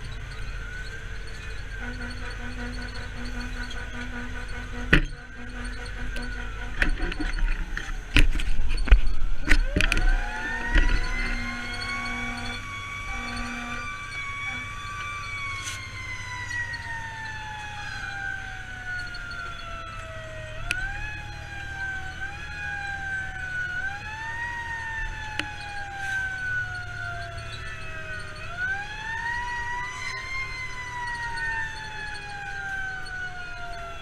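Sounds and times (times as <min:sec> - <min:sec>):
fire engine siren wailing: 0:00.0 - 0:34.0
truck engine rumble: 0:00.0 - 0:34.0.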